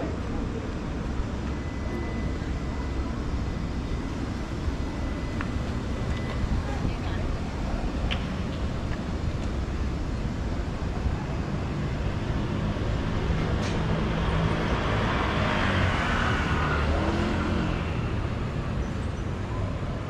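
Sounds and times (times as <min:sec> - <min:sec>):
rumble of cars on road: 0:00.0 - 0:20.0.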